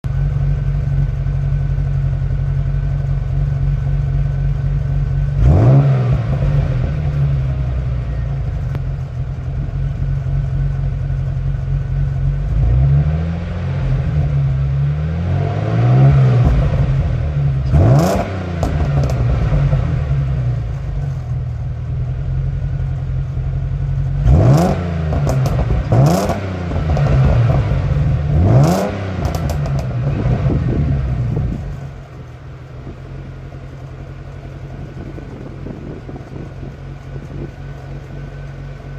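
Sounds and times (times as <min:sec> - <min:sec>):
car exhaust idling and revving: 0:00.0 - 0:38.9.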